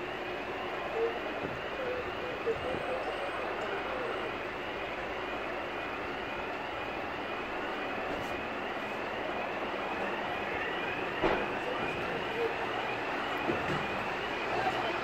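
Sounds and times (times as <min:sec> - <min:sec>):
fire engine siren yelping: 0:00.0 - 0:15.0
traffic noise: 0:00.0 - 0:15.0.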